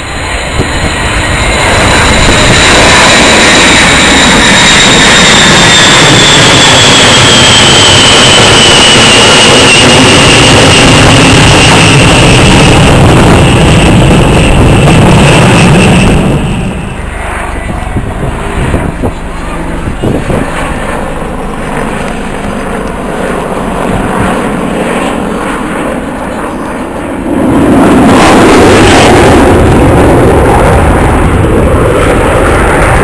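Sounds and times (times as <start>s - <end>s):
high jet whine falling in pitch: 0.0s - 33.0s
jet bomber flying overhead: 0.0s - 33.0s.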